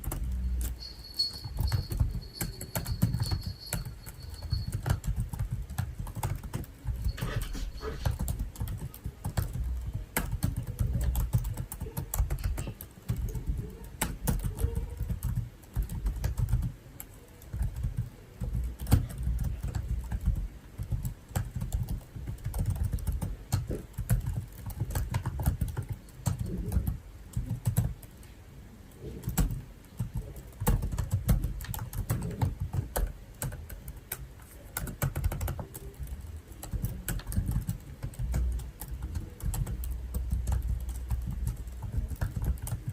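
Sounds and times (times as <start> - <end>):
typing on computer keyboard: 0.0 - 28.1, 28.9 - 42.9.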